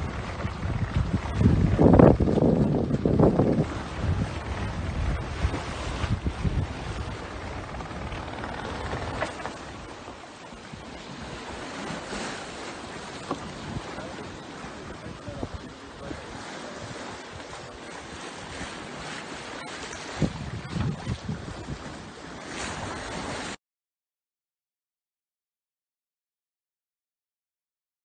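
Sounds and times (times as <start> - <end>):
water rushing along sailboat: 0.0 - 23.6
wind buffeting microphone: 0.0 - 23.6.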